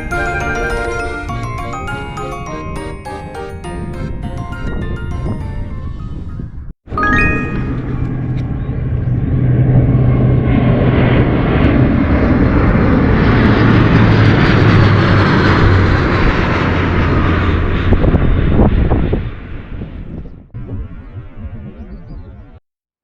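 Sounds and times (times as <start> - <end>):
airplane engine passing: 0.0 - 6.4, 7.0 - 20.2.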